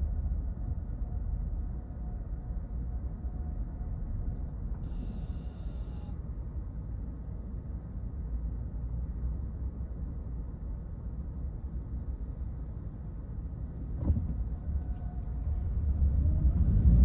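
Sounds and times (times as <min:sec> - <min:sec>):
car interior road and engine noise: 0:00.0 - 0:17.0.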